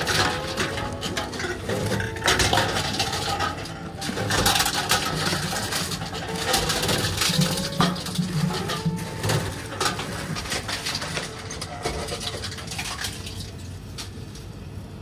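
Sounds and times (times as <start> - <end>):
vending machine knocks and rattles: 0.0 - 12.2
cans and bottles clattering: 0.0 - 13.5.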